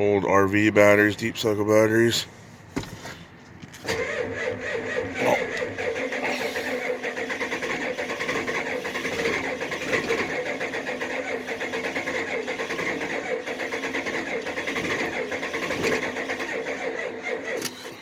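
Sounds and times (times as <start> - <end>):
diesel engine cranking: 0.0 - 18.0.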